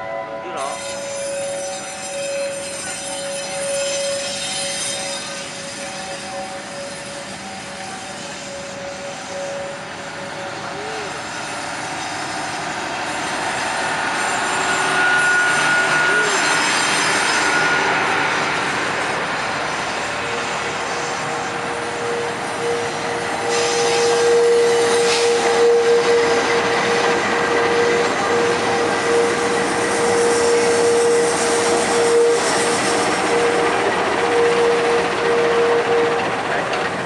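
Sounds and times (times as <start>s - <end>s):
train rolling on rails: 0.0s - 37.0s
thin steady squeal: 0.6s - 36.6s.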